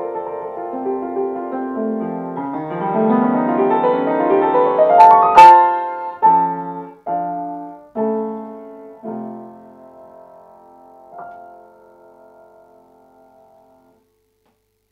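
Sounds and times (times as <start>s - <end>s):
solo piano: 0.0s - 14.0s.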